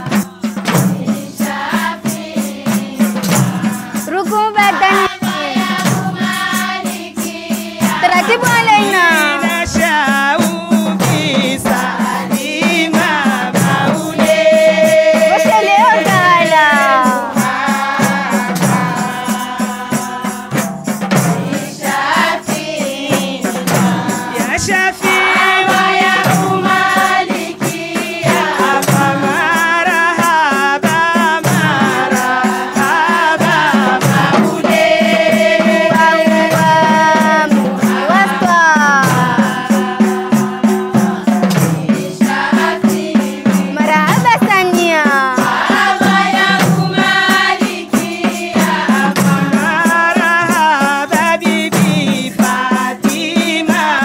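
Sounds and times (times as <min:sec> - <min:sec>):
frame drums beat: 0:00.0 - 0:54.0
women's choir singing: 0:00.0 - 0:54.0
woman singing into a microphone: 0:01.2 - 0:20.5, 0:21.5 - 0:54.0.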